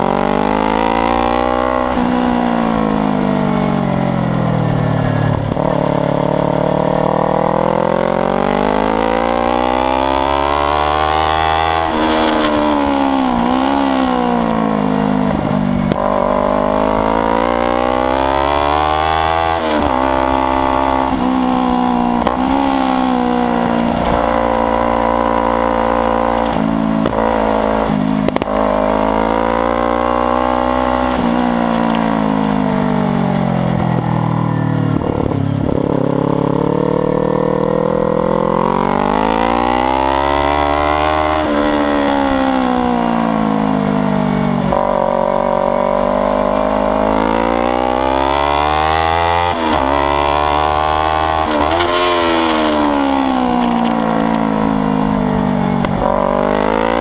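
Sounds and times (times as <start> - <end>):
motorcycle engine revving hard: 0.0 - 57.0.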